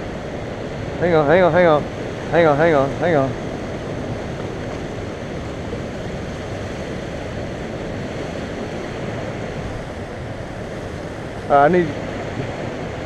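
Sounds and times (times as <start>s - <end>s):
rushing river water: 0.0s - 13.0s
wind on microphone: 0.0s - 13.0s.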